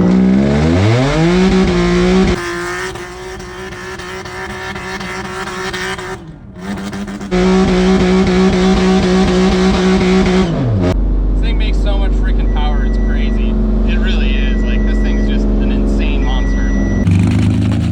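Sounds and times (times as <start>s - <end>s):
car engine revving high: 0.0s - 17.9s.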